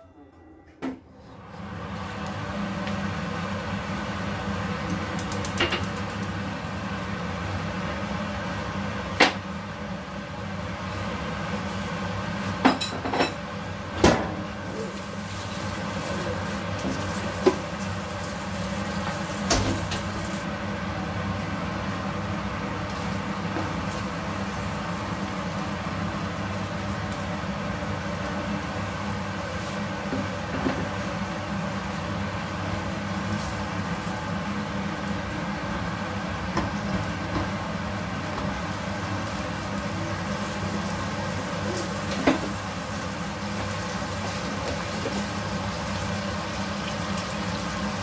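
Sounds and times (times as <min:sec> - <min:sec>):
extractor fan humming: 0:00.0 - 0:48.0.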